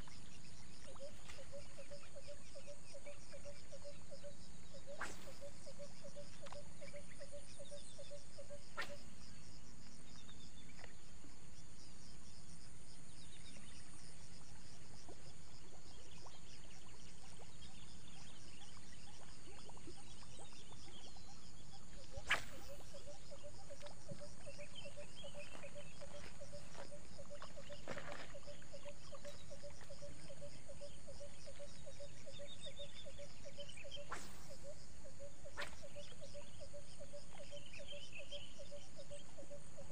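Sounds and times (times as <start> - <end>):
crickets and insects chirping: 0.0 - 39.9
faint bird chirps: 0.0 - 39.9.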